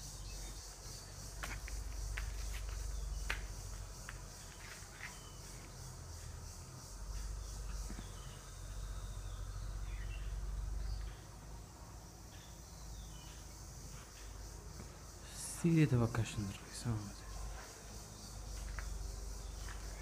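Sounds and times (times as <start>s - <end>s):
faint insect chirps: 0.0s - 20.0s
insects chirring: 0.0s - 20.0s.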